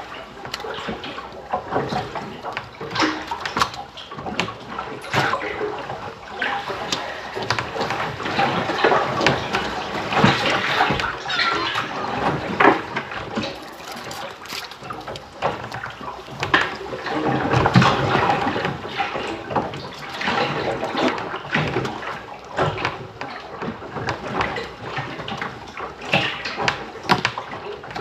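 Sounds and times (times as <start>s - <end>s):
seawater splashing: 0.0s - 28.0s.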